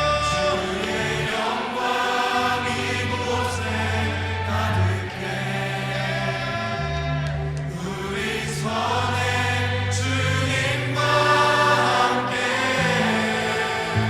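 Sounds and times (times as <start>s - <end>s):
sustained pad chords: 0.0s - 14.0s.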